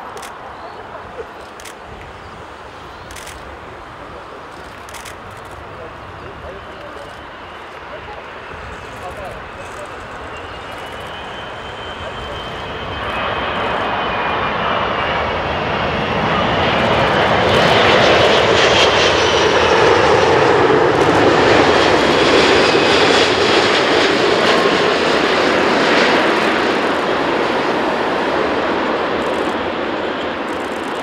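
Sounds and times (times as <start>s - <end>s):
airliner jet roar and whine: 0.0s - 31.0s.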